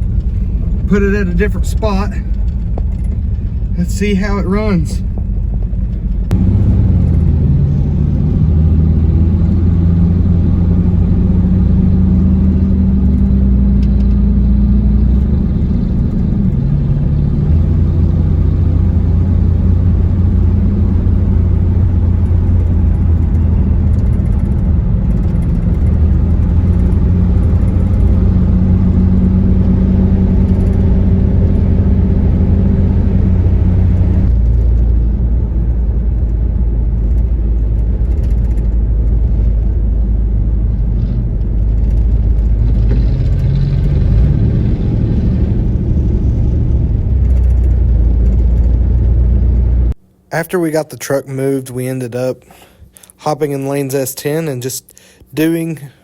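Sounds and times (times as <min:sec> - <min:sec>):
pickup truck engine running: 0:00.0 - 0:50.9.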